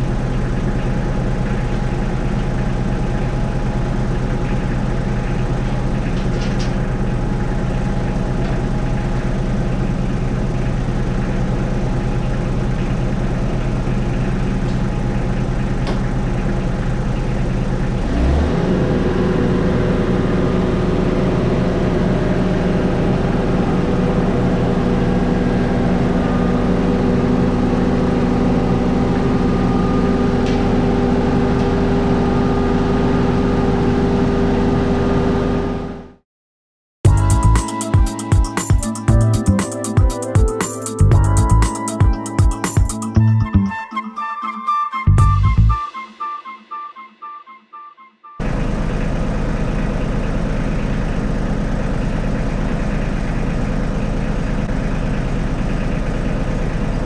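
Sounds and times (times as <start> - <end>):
diesel engine idling and revving: 0.0 - 36.2, 37.1 - 38.2, 38.9 - 39.6, 41.0 - 43.7, 48.4 - 57.0.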